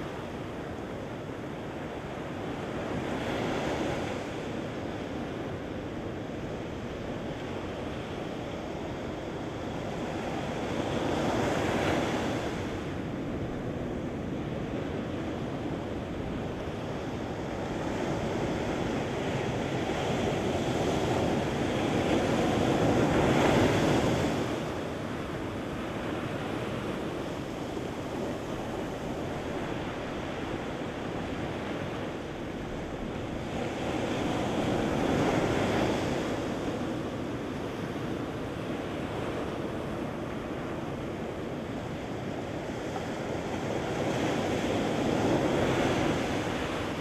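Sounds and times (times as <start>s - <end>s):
ocean waves breaking on beach: 0.0s - 47.0s.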